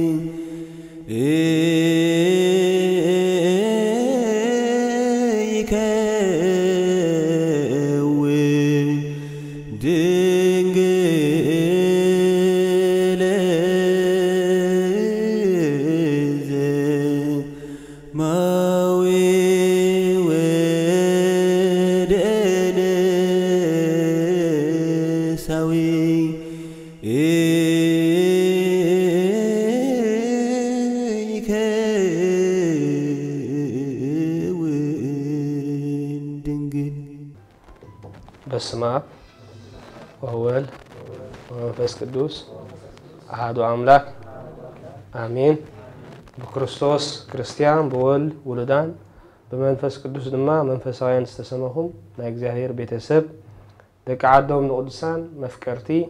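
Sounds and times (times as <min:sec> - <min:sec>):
slow liturgical chant: 0:00.0 - 0:56.0.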